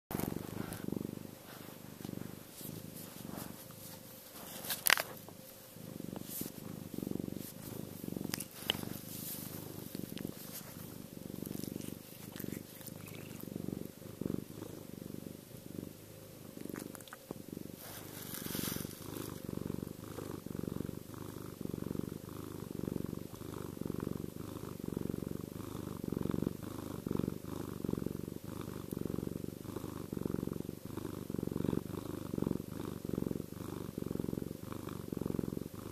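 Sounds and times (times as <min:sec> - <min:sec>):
cat purring: 0:00.1 - 0:35.9.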